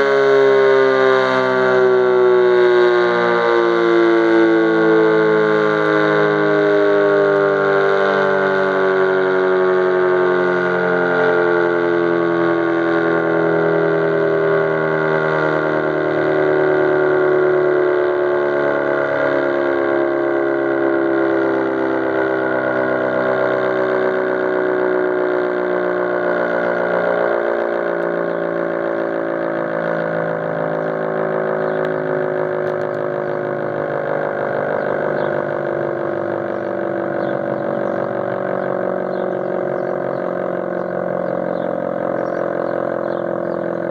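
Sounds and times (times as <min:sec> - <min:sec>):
warning siren winding down: 0:00.0 - 0:43.9.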